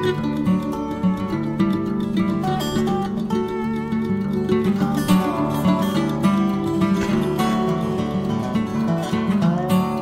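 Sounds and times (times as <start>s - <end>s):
plucked acoustic guitar music: 0.0s - 10.0s.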